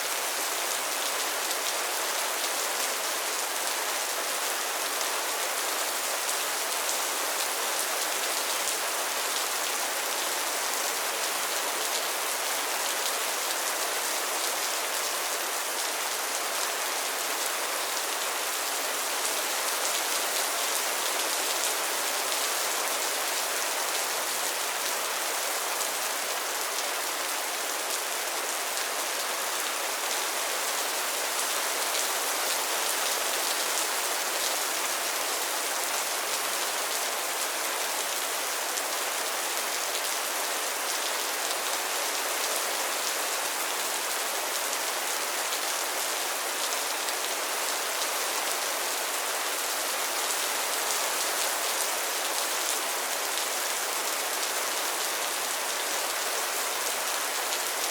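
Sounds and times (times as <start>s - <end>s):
rain falling on pond water: 0.0s - 57.9s.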